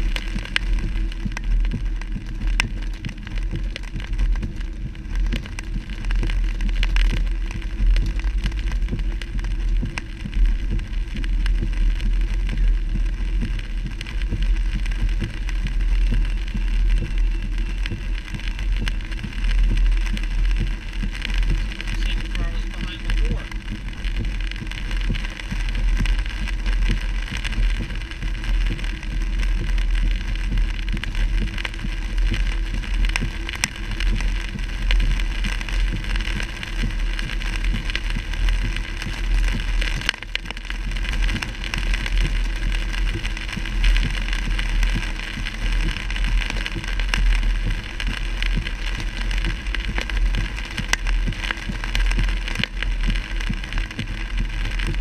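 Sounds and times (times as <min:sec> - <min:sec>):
rain spattering on car: 0:00.0 - 0:55.0
road and engine rumble: 0:00.0 - 0:55.0.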